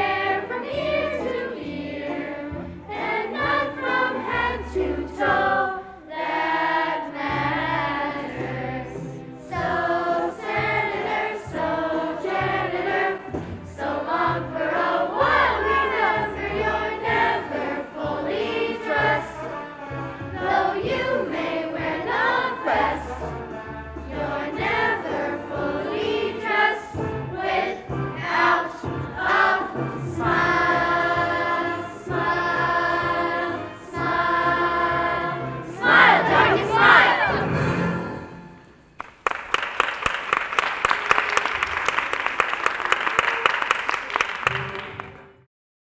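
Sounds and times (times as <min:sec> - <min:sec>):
young performers singing in chorus: 0:00.0 - 0:23.3, 0:24.0 - 0:38.6.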